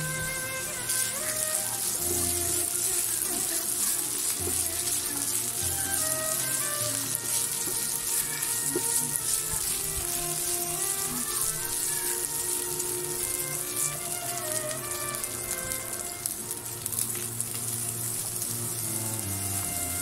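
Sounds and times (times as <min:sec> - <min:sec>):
background music: 0:00.0 - 0:20.0
meat sizzling in a pan: 0:00.0 - 0:20.0.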